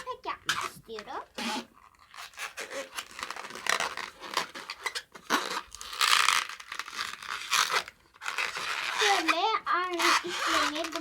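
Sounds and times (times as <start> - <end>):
rubber balloon crinkling: 0.0 - 11.0.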